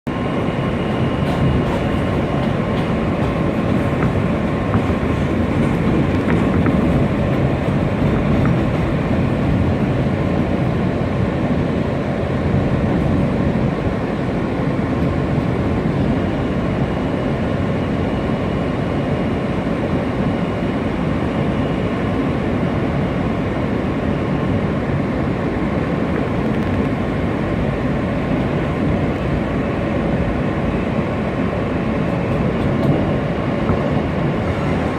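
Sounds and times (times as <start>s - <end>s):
train wheels rumbling on track: 0.1s - 34.9s.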